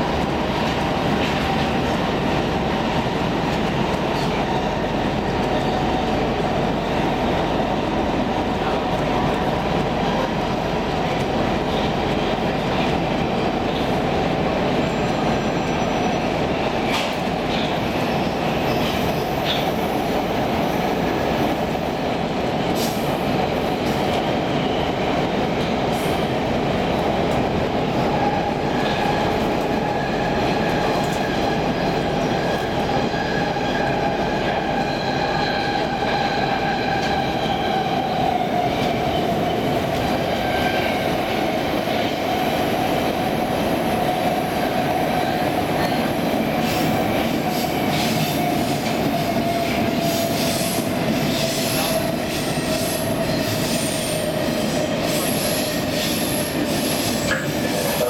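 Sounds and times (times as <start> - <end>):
train whine: 0.0 - 58.0
wheels rumbling on rail: 0.0 - 58.0.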